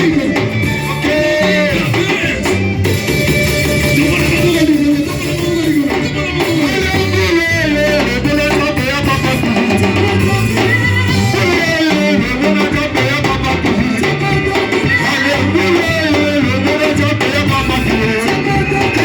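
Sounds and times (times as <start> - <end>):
band music with guitar and drums: 0.0 - 19.0.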